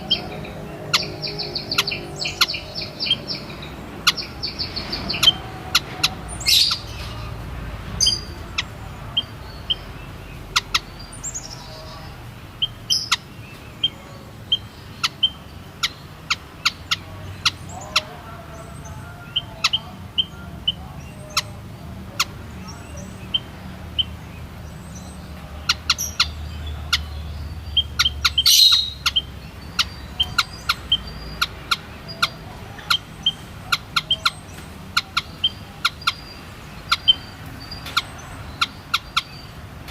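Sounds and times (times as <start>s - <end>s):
bird sharp chirps: 0.0s - 7.4s, 8.0s - 39.6s.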